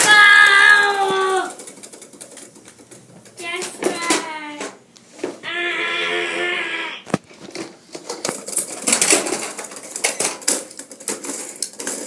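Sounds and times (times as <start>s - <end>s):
plastic toys clattering: 0.0s - 4.8s, 7.1s - 12.0s.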